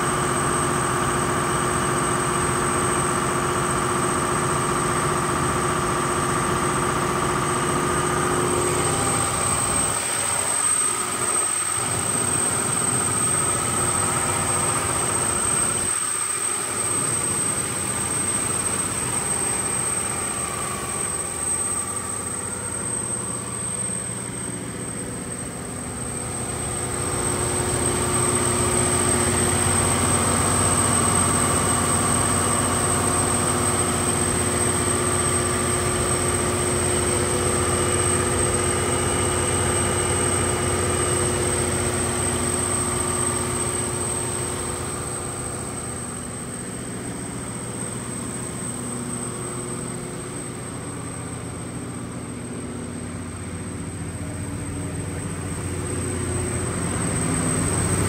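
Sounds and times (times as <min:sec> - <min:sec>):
diesel generator engine running: 0:00.0 - 0:58.0
high-pitched whine: 0:00.0 - 0:58.0.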